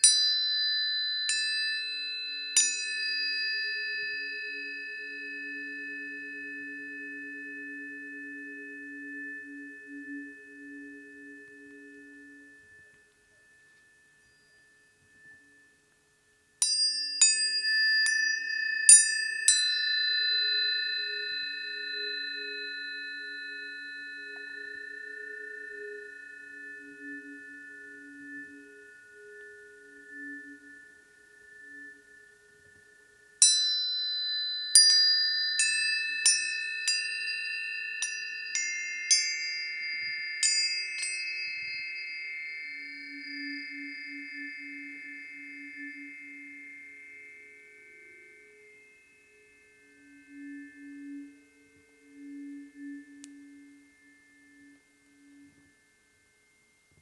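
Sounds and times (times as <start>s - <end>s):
tuning forks struck and ringing: 0.0s - 57.0s.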